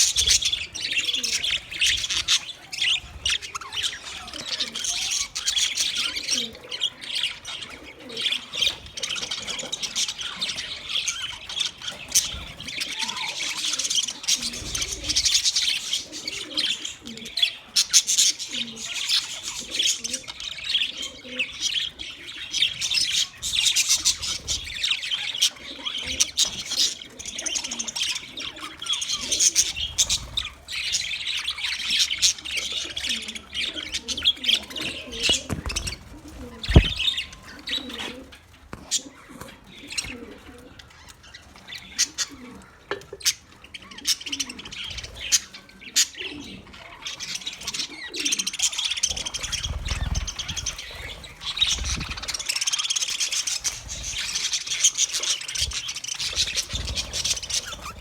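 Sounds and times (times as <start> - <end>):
budgies chirping and chattering: 0.0 - 58.0.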